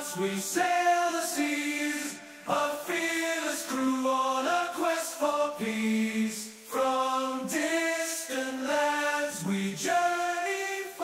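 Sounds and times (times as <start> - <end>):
choir singing slow held notes: 0.0 - 11.0.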